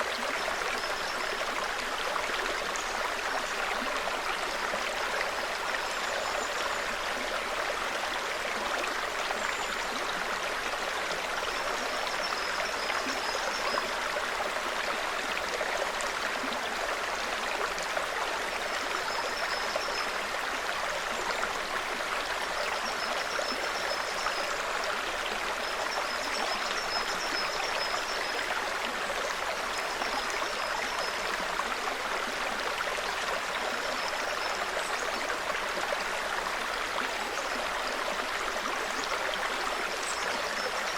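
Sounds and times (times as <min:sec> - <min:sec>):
brook trickling over stones: 0:00.0 - 0:40.9.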